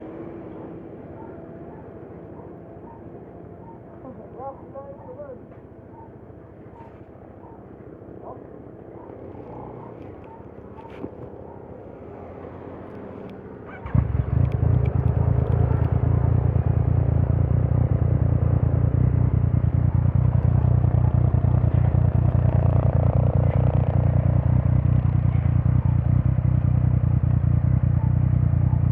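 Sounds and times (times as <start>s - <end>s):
motorcycle engine idling: 0.0s - 28.9s.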